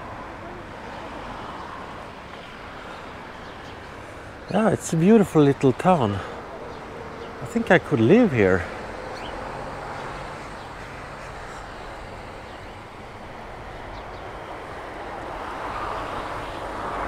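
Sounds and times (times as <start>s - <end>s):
road traffic hiss: 0.0s - 17.0s
vehicle approaching: 0.0s - 17.0s.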